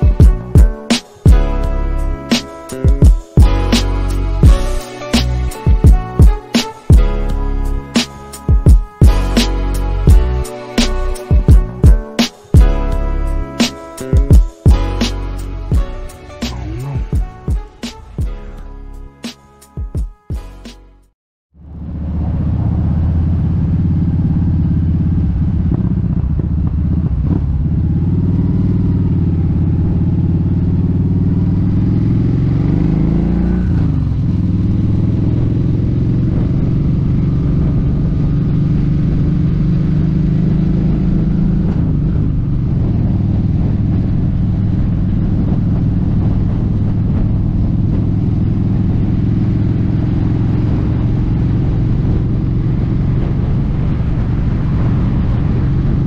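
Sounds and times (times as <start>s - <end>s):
motorcycle engine running: 0.0s - 18.4s, 21.6s - 56.0s
road and wind noise: 0.0s - 20.8s, 21.5s - 56.0s.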